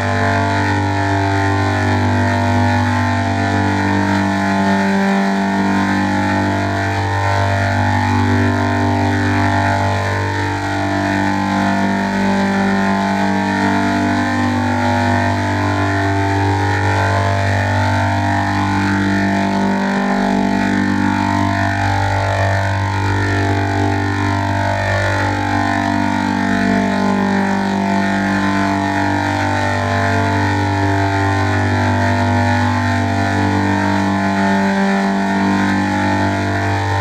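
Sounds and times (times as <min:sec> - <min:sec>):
loud droning hum: 0:00.0 - 0:37.0.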